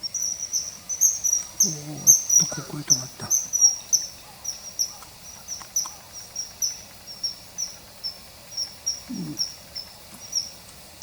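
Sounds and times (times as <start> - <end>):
kingfisher calling: 0.0 - 10.6.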